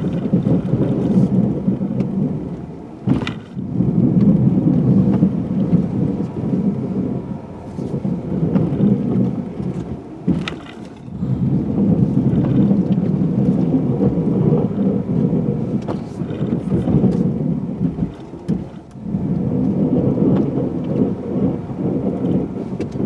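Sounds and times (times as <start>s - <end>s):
truck engine rumbling: 0.0s - 23.0s
plow blade scraping snow: 3.0s - 23.0s.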